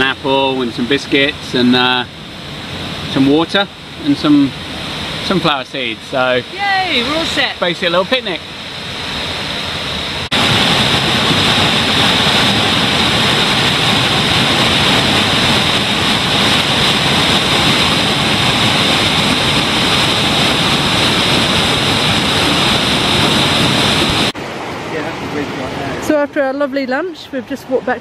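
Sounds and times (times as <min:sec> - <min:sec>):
river rushing over rapids: 0:00.0 - 0:26.2.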